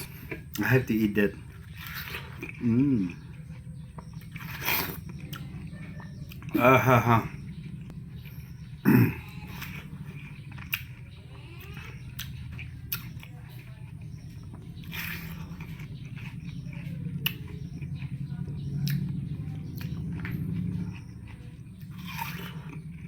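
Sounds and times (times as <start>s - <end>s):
person chewing: 0.0s - 23.0s
steady low hum: 0.0s - 23.0s.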